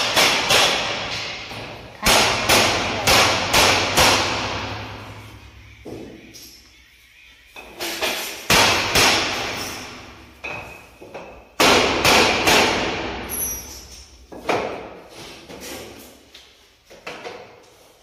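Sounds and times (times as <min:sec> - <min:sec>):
loud bangs and thuds in empty room: 0:00.0 - 0:06.6, 0:07.6 - 0:16.0.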